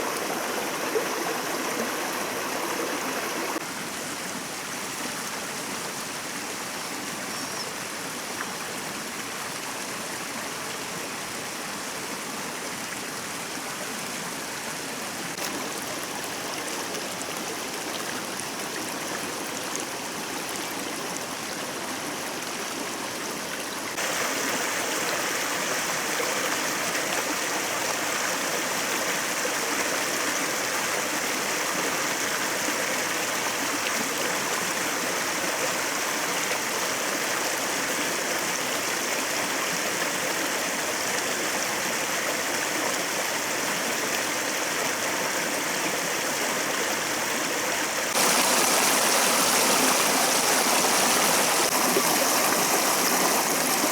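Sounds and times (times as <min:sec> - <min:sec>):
stream water over rocks: 0:00.0 - 0:53.9.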